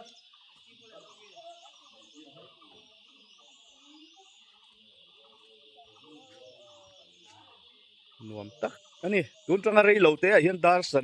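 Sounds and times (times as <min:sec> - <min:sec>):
faint high chirps: 0:00.0 - 0:11.0
insects buzzing: 0:00.0 - 0:11.0.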